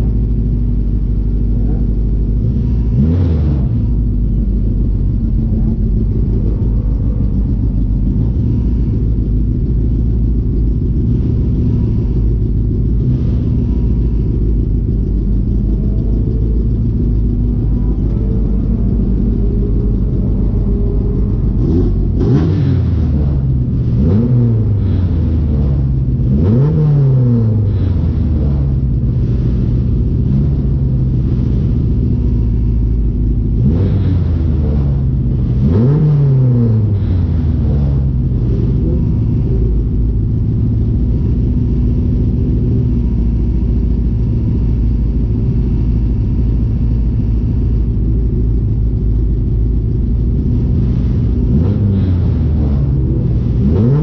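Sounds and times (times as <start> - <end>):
engine revving: 0.0 - 54.0
race car engine idling: 0.0 - 54.0.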